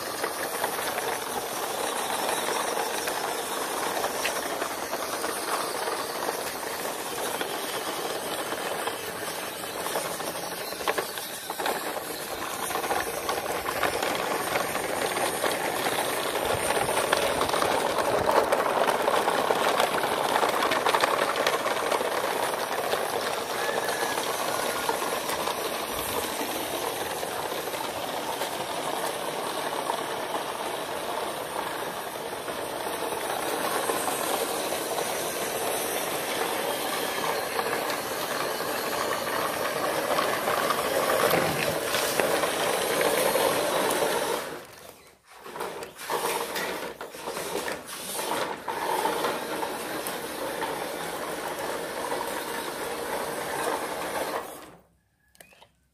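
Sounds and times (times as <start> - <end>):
toy truck wheels rattling on concrete: 0.0 - 55.9.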